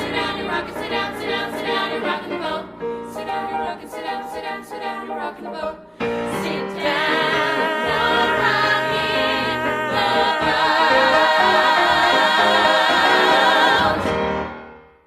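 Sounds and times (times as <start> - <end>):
echo of voices: 0.0 - 14.2
vocal ensemble holding chord: 0.0 - 14.4.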